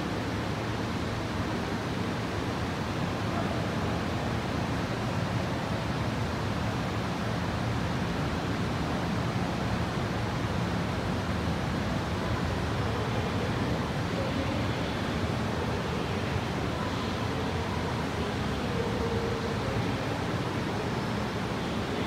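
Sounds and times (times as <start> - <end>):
train rumbling into platform: 0.0 - 22.0.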